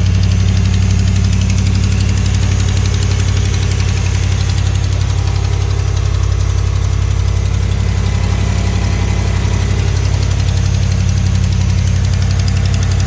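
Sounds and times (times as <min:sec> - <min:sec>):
engine idling with ticking: 0:00.0 - 0:13.0.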